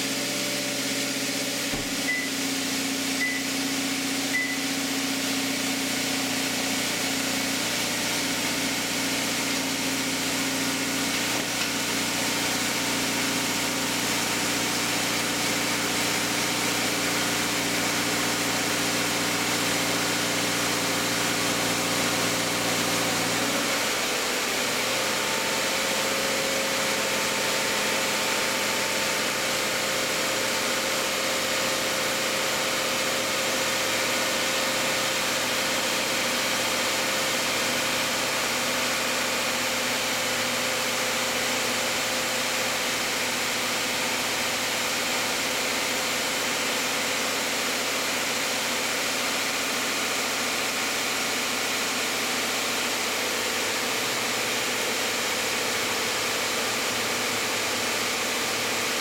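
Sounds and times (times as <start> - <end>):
car engine fast idle: 0.0 - 59.0.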